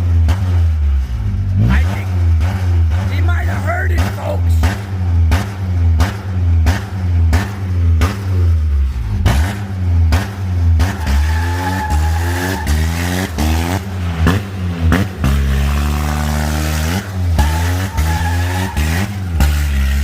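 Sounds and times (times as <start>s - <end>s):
car engine bouncing off rev limiter: 4.0s - 20.0s.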